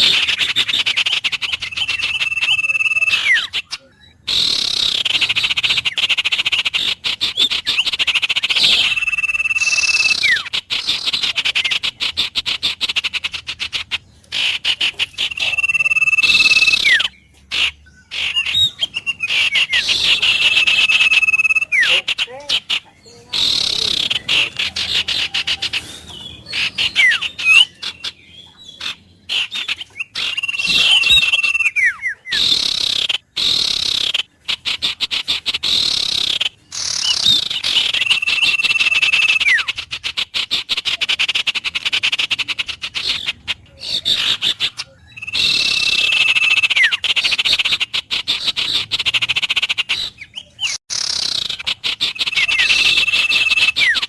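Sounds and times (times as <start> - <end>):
bird fast high trills: 0.0 - 28.1, 28.7 - 34.6, 35.5 - 39.8, 48.7 - 54.0.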